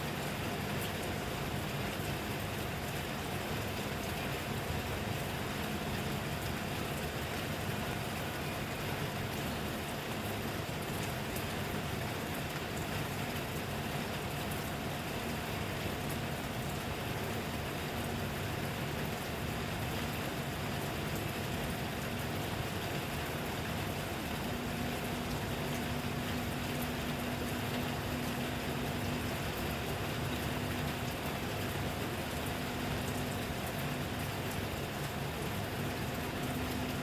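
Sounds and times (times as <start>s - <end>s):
faint steady hum: 0.0s - 37.0s
steady rain falling: 0.0s - 37.0s.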